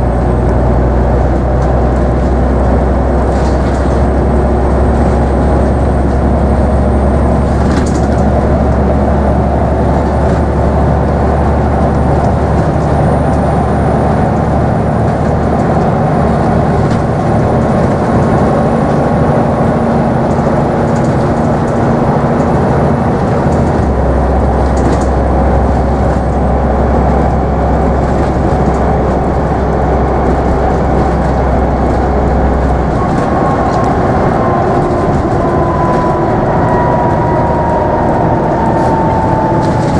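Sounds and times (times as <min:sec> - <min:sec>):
bus engine drone: 0:00.0 - 0:39.9
road and tyre noise: 0:00.0 - 0:39.9.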